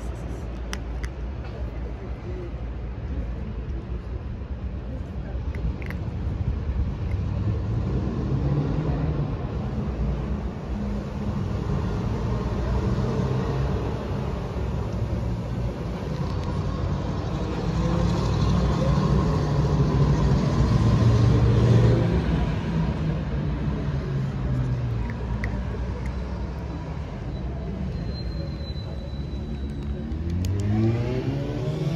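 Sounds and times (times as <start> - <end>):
vehicle engine rumbling: 0.0 - 31.9.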